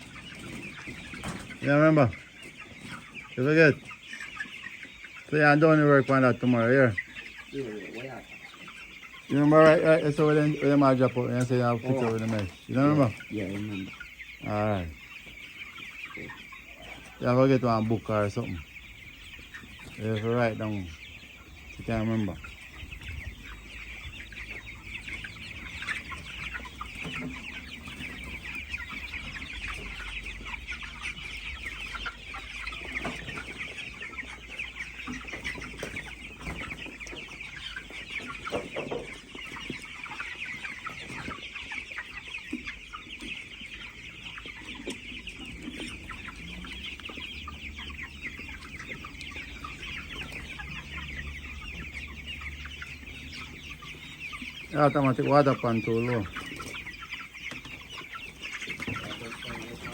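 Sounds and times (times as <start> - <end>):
chickens cheeping and clucking: 0.0 - 59.9.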